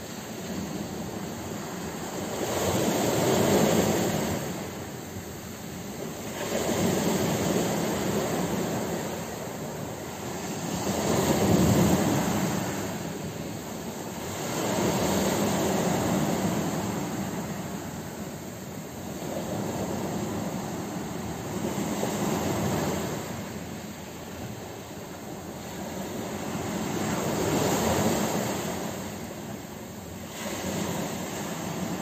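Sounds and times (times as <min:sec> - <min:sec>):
waves washing on rocky shore: 0:00.0 - 0:32.0.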